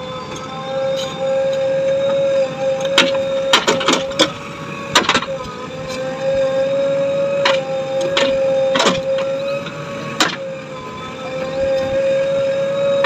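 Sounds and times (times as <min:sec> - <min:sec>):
diesel engine: 0:00.0 - 0:13.0
hydraulic whine: 0:00.0 - 0:13.0.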